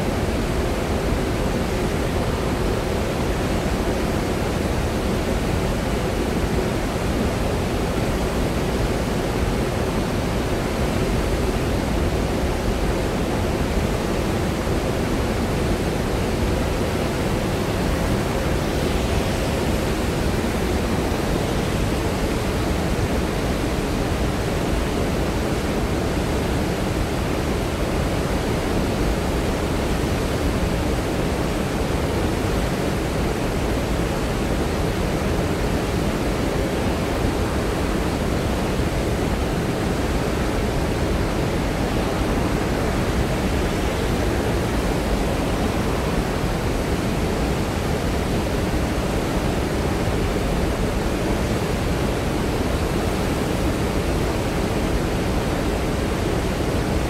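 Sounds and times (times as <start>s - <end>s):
roar of rushing floodwater: 0.0s - 57.0s.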